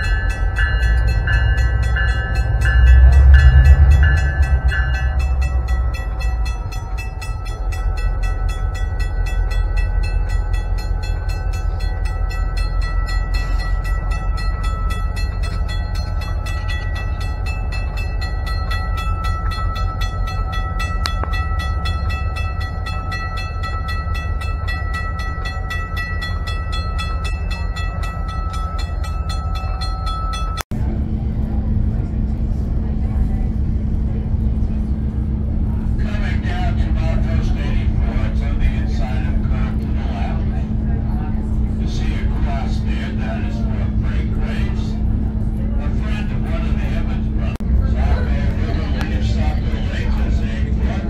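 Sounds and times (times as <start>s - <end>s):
crossing bell ringing: 0.0s - 30.7s, 34.8s - 51.0s
diesel locomotive engine rumbling: 0.0s - 51.0s.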